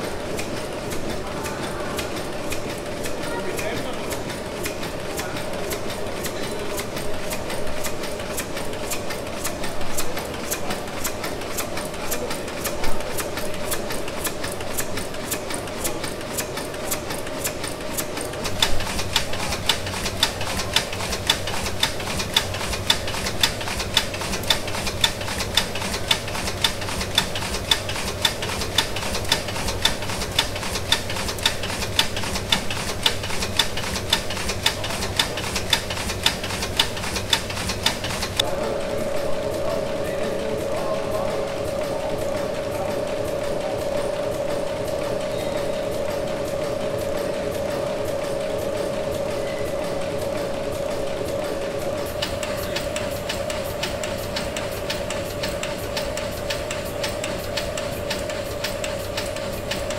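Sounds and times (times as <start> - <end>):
steam engine clattering: 0.0 - 59.9
valve gear rhythmic clicking: 0.0 - 59.9.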